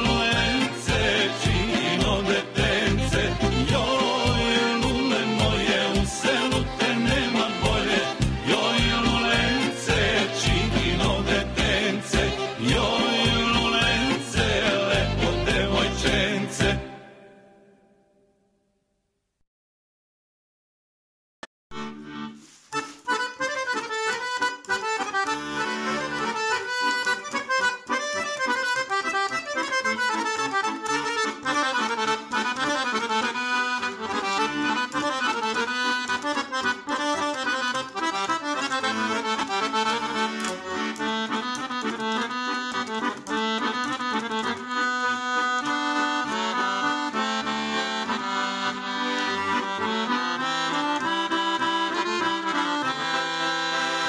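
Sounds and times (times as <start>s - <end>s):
instrumental background music: 0.0s - 18.2s, 21.7s - 54.0s.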